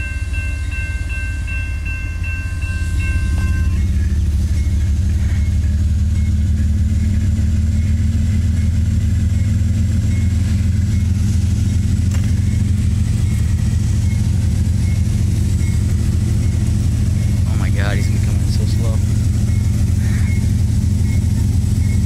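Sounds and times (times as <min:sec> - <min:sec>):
crossing bell ringing: 0:00.0 - 0:22.0
diesel locomotives rumbling: 0:00.0 - 0:22.0.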